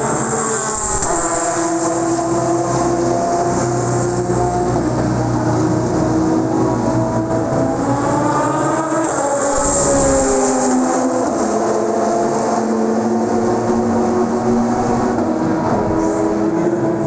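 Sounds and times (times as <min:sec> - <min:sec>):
racing car engines running: 0:00.0 - 0:17.0.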